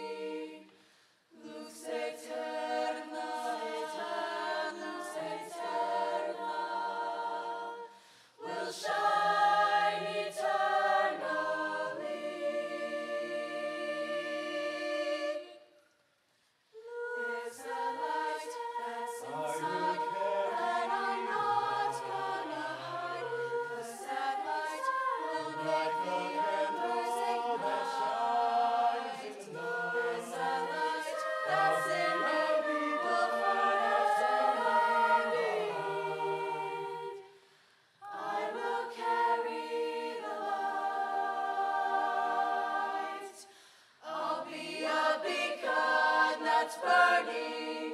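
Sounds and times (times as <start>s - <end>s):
choir singing in harmony: 0.0s - 15.7s, 16.7s - 47.9s.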